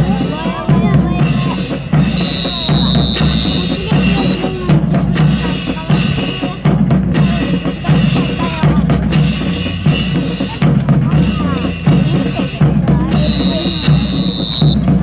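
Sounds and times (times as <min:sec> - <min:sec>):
rhythmic drumming: 0:00.0 - 0:15.0.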